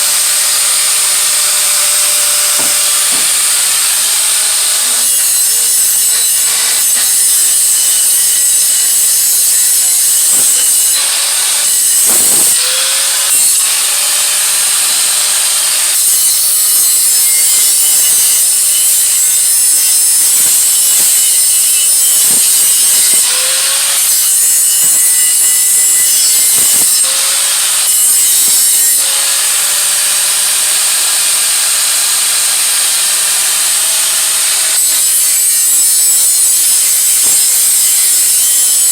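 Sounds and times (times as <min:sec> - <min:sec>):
electric grinder on metal: 0:00.0 - 0:38.9.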